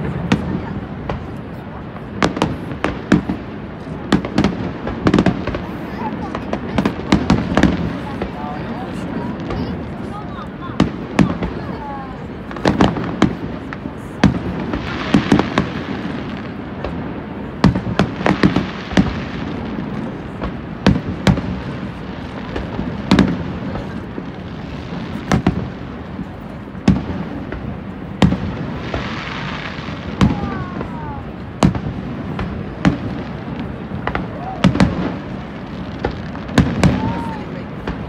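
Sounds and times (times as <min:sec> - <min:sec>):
fireworks bangs: 0:00.0 - 0:38.0
fireworks crackling: 0:00.0 - 0:38.0
steady background noise: 0:00.0 - 0:38.0.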